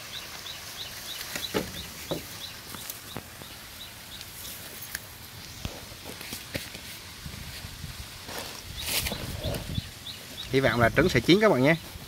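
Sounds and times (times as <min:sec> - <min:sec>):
rustles: 0:00.9 - 0:12.0.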